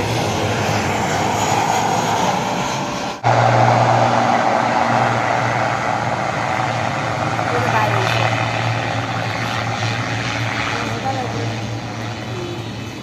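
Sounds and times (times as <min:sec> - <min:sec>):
jet airliner engines: 0:00.0 - 0:13.0
turboprop engines humming: 0:00.0 - 0:13.0.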